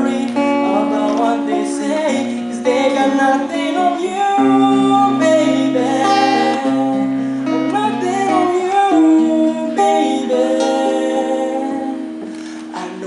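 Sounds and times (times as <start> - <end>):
acoustic guitar accompaniment: 0.0 - 13.0
person singing long notes: 0.0 - 13.0.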